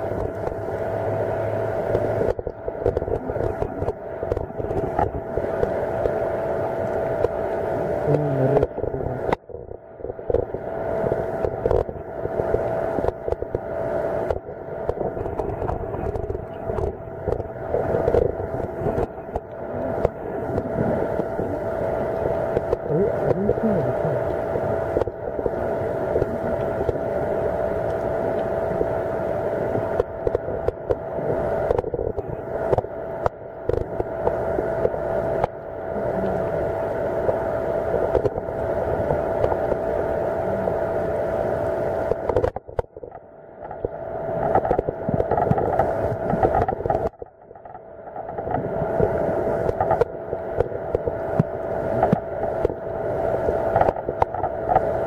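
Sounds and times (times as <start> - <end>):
underwater droning hum: 0.0 - 55.0
underwater water noise: 0.0 - 55.0.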